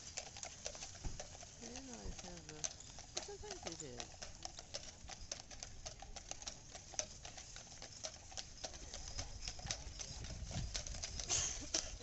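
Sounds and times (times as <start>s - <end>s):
horse hooves on pavement: 0.0s - 12.0s.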